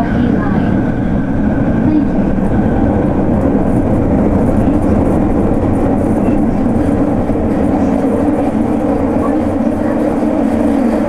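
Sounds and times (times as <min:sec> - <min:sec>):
subway train rumbling in tunnel: 0:00.0 - 0:11.0.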